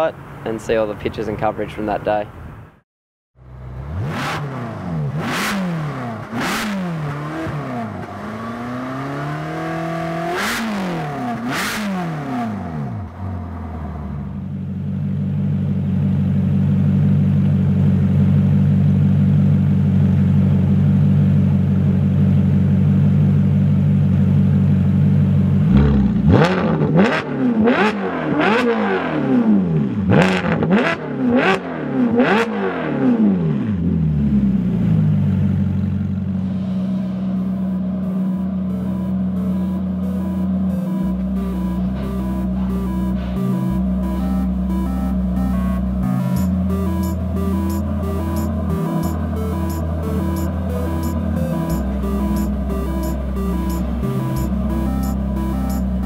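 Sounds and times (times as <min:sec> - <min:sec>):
sports car engine revving: 0:03.5 - 0:18.4, 0:25.6 - 0:56.0.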